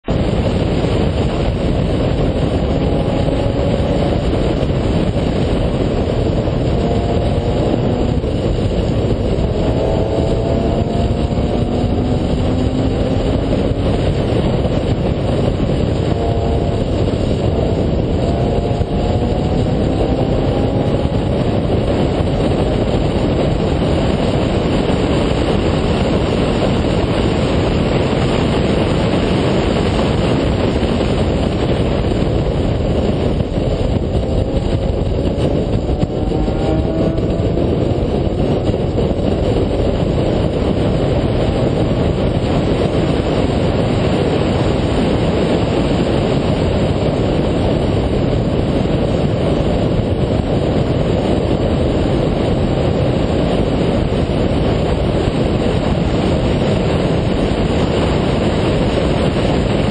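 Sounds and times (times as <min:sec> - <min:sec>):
car engine at high revs: 0:00.0 - 0:59.9
road and wind noise: 0:00.0 - 0:59.9.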